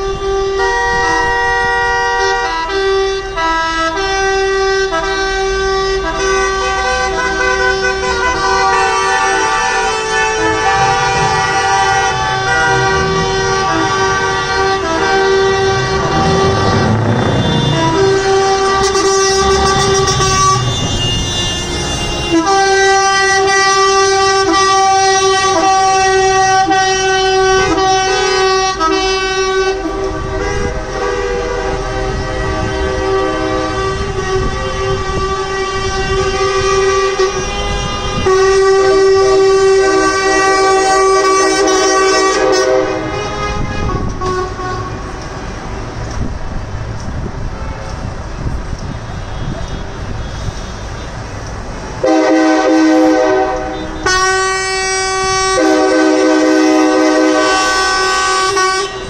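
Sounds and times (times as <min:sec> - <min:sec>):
truck air horns blaring: 0:00.0 - 0:46.0, 0:47.4 - 0:59.0
low rumble of vehicles: 0:00.0 - 0:59.0.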